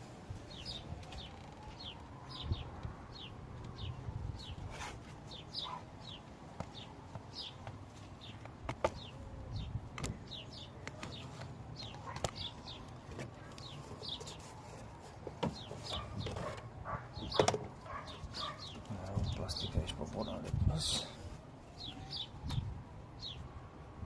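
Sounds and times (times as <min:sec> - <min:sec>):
small birds chirping: 0:00.4 - 0:23.5.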